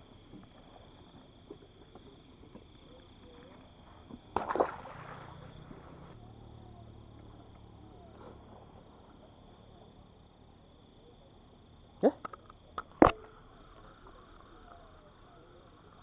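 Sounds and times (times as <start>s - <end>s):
low steady hum: 0.0s - 16.0s
night insects droning: 0.0s - 16.0s.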